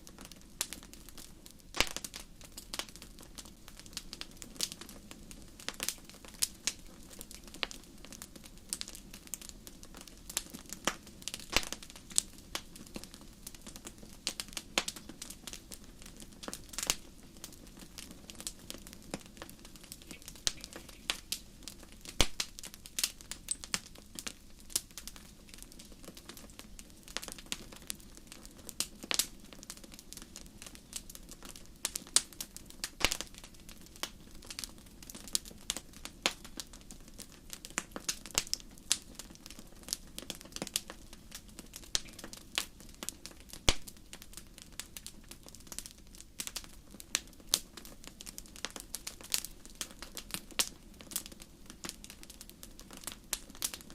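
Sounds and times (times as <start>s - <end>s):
campfire crackling: 0.0s - 53.9s
low rush of burning fire: 0.0s - 53.9s.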